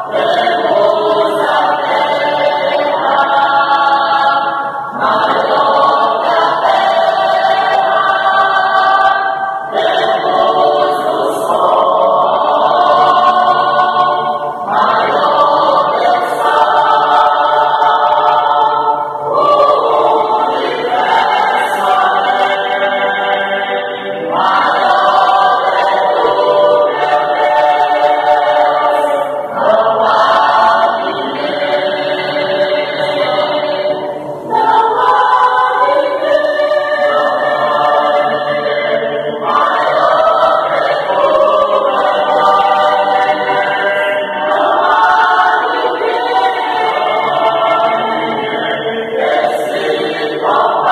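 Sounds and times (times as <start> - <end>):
mixed choir singing a hymn: 0.0 - 50.9.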